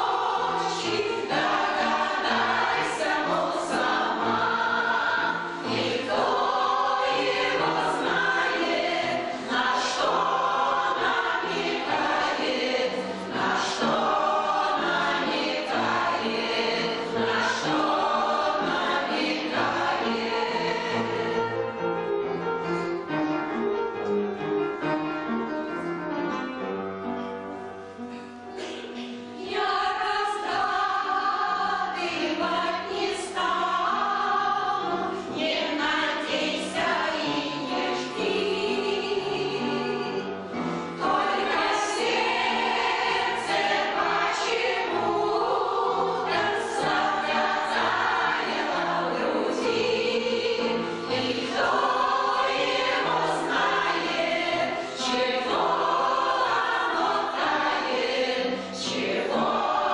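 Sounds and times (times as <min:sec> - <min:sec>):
mixed choir singing: 0:00.0 - 0:22.7, 0:28.6 - 0:59.9
piano accompaniment: 0:00.0 - 0:59.9.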